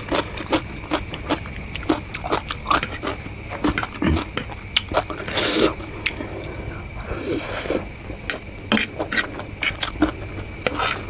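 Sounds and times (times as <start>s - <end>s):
chewing noodles: 0.0s - 11.0s.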